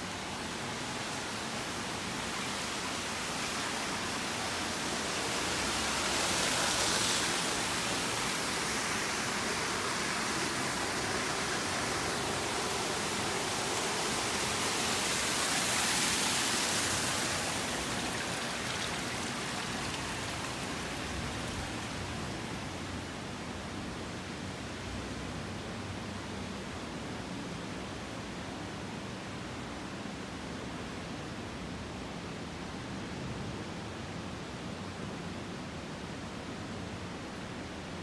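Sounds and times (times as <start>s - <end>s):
water rushing and splashing: 0.0s - 38.0s.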